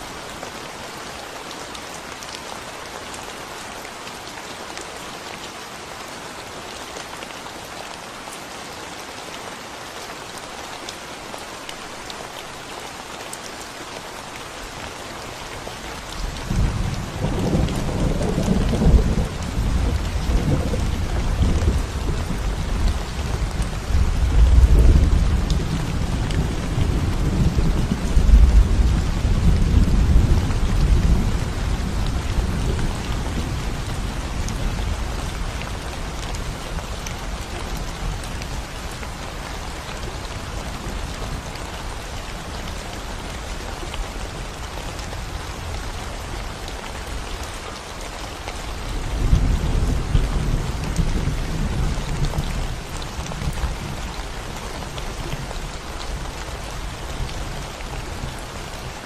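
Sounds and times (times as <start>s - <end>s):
rain on concrete road: 0.0s - 59.0s.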